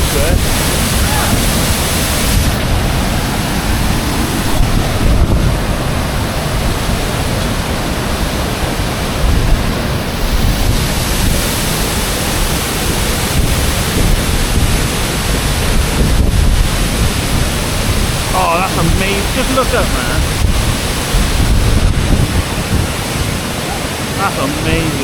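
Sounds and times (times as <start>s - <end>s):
waterfall roaring: 0.0s - 25.0s
wind buffeting microphone: 0.0s - 25.0s.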